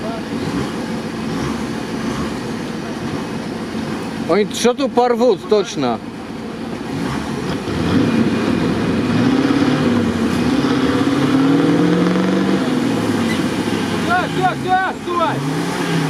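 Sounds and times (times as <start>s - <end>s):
engine revving under load: 0.0s - 4.6s, 6.6s - 16.0s.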